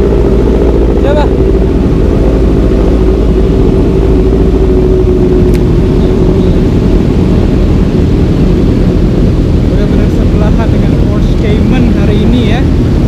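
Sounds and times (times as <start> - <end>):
motorcycle engine droning: 0.0 - 13.0
wind rush on microphone: 0.0 - 13.0.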